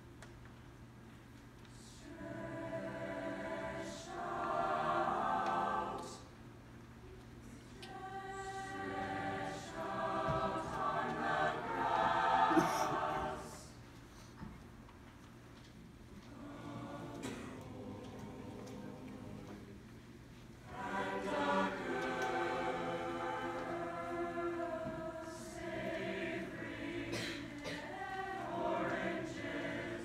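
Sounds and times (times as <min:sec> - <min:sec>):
choir singing a cappella: 0:01.7 - 0:06.6, 0:07.4 - 0:13.9, 0:16.2 - 0:30.0.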